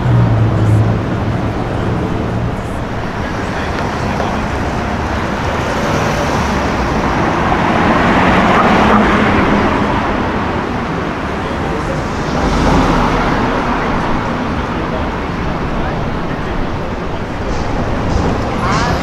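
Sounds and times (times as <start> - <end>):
car engine and exhaust passing: 0.0 - 19.0
passing traffic: 0.0 - 19.0.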